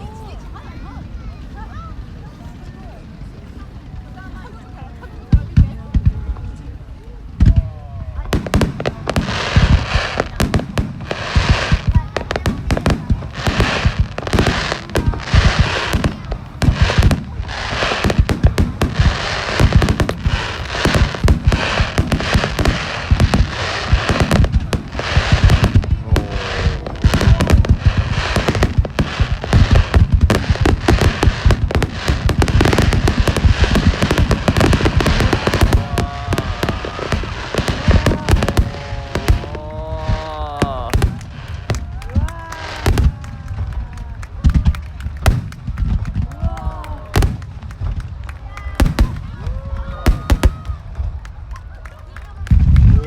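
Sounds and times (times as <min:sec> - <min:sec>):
fireworks crackling: 0:00.0 - 0:53.0
fireworks booming: 0:05.3 - 0:51.4.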